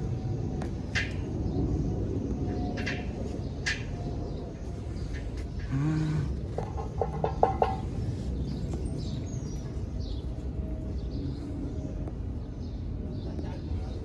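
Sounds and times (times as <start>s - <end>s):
steady background noise: 0.0s - 14.0s
bird calls: 2.4s - 14.0s.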